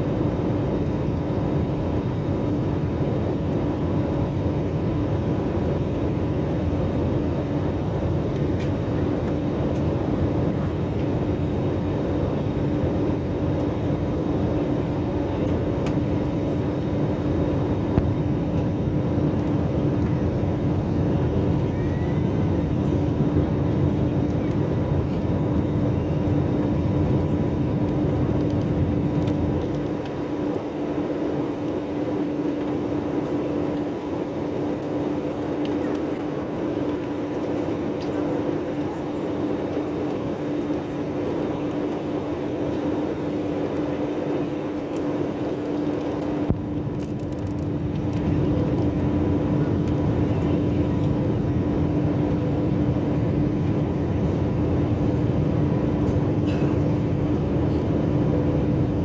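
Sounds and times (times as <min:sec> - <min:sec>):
airplane cabin engine drone: 0:00.0 - 0:59.0.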